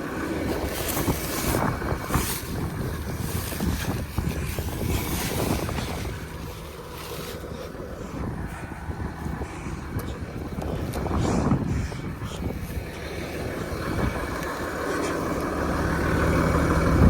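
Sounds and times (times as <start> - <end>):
vehicle engine rumbling: 0.0 - 17.0
wind buffeting microphone: 0.0 - 17.0.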